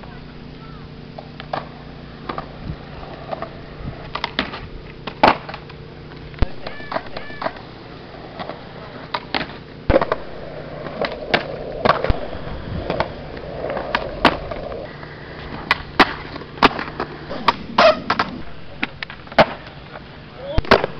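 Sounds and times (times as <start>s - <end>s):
skateboard wheels rolling on concrete: 0.0s - 20.9s
skateboard clacks: 1.2s - 20.9s.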